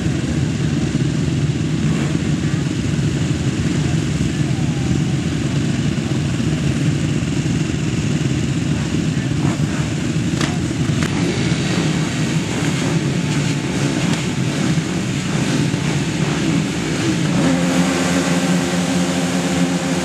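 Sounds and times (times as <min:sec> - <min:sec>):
quad engines running: 0:00.0 - 0:20.0.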